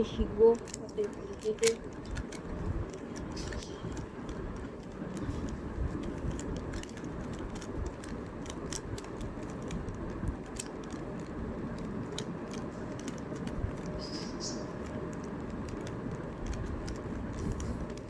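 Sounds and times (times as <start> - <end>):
low background rumble: 0.0 - 18.0
plastic puzzle cube clicking: 0.1 - 18.0.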